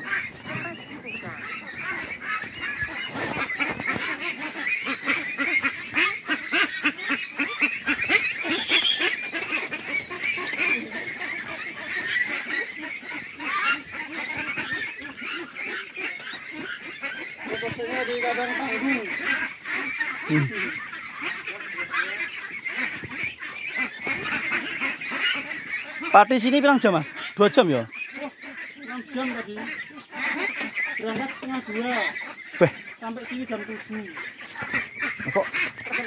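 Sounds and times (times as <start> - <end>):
flock of ducks quacking: 0.0 - 36.0.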